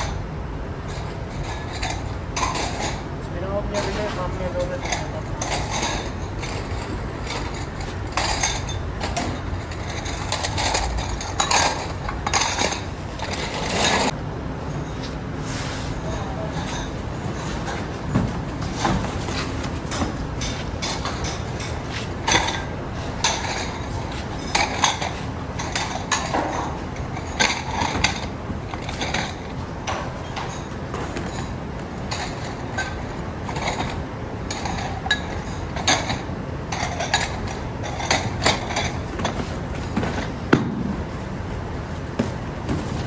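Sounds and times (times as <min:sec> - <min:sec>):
steady low hum: 0:00.0 - 0:43.0
ceramic bowls clattering: 0:00.9 - 0:03.0, 0:03.8 - 0:14.2, 0:16.1 - 0:29.6, 0:30.2 - 0:40.4.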